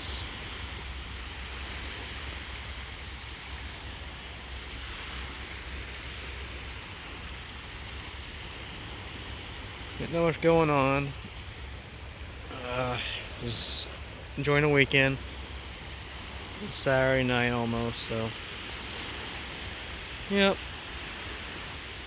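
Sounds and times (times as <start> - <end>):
ocean surf: 0.0 - 22.0.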